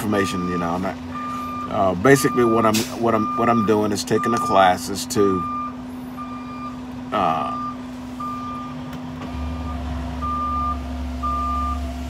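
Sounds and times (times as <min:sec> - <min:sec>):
truck engine low rumble: 0:00.0 - 0:12.0
truck reversing alarm beeping: 0:00.0 - 0:12.0.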